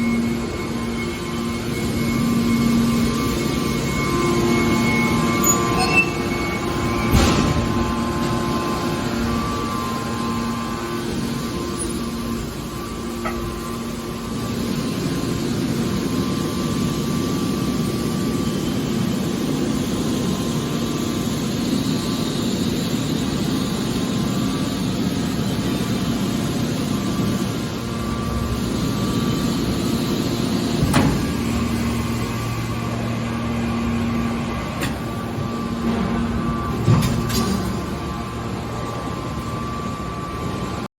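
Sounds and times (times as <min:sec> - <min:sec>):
baler machine hum and whine: 0:00.0 - 0:40.9.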